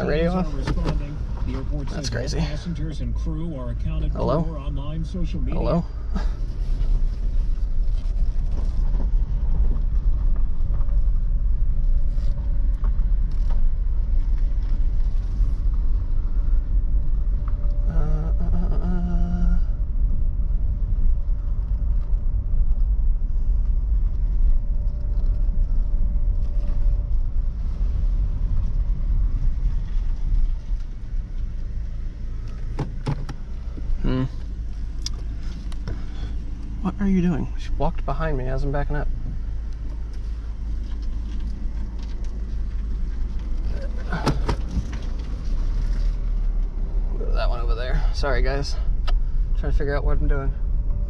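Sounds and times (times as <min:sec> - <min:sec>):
engine and road rumble: 0:00.0 - 0:51.0.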